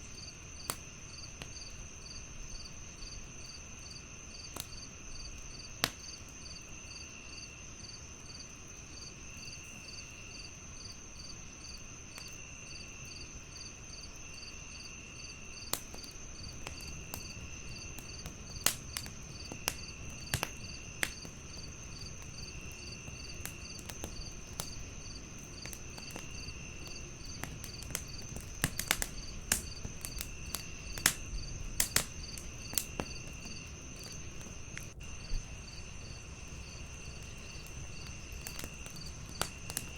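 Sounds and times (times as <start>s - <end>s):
wood fire crackling and popping: 0.0s - 6.8s, 7.5s - 39.9s
crickets chirping: 0.0s - 39.9s.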